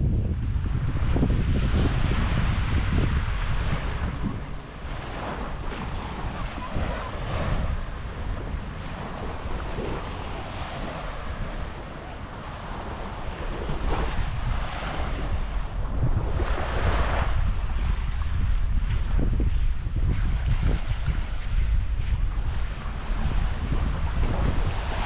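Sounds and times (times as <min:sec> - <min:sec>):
small waves washing onto beach: 0:00.0 - 0:25.0
wind buffeting microphone: 0:00.0 - 0:25.0.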